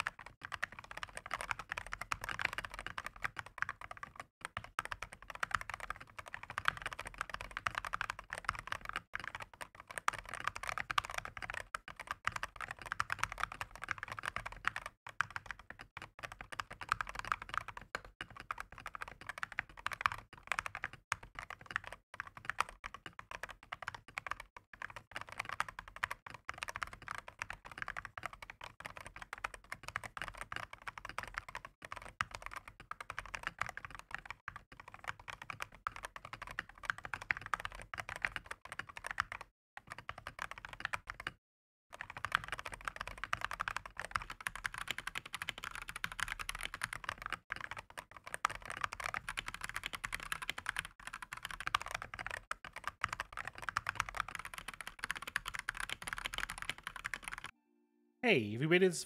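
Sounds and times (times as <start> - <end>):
mechanical keyboard typing: 0.0 - 57.6.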